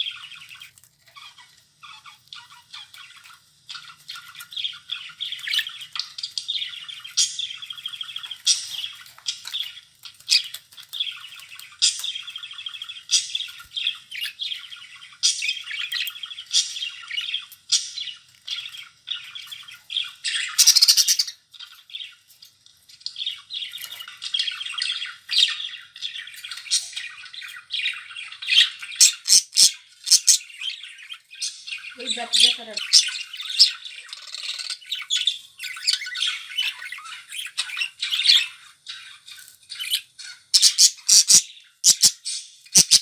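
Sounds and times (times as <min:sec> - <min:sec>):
budgerigars chattering and warbling: 0:00.0 - 0:22.2, 0:22.9 - 0:43.0.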